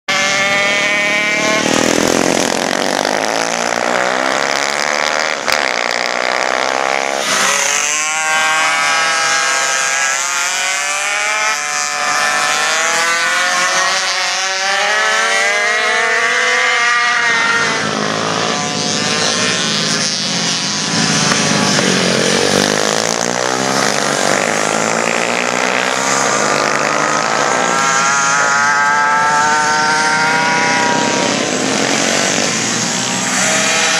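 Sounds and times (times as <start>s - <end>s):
small motorbike engines racing: 0.1s - 33.9s.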